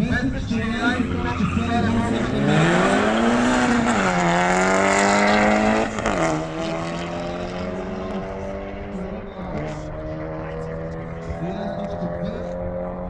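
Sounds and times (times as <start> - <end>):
car engines accelerating hard: 0.0 - 13.0.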